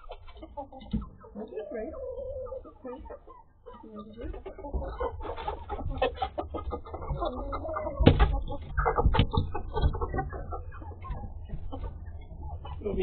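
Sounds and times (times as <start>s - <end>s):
hens clucking and squawking: 0.0s - 13.0s.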